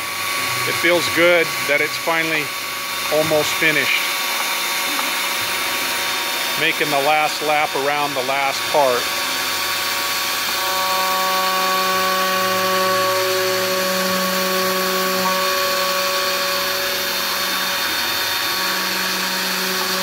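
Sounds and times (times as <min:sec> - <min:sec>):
cnc router spindle whine: 0:00.0 - 0:20.0.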